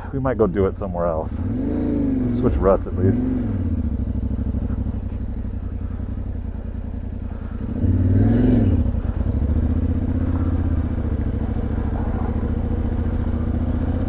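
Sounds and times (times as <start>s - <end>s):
motorcycle engine at low revs: 0.0s - 14.0s
motorcycle engine revving: 0.0s - 14.0s.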